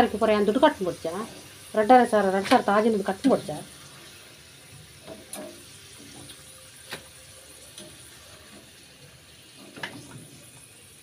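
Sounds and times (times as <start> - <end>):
fries deep-frying in oil: 0.0 - 11.0.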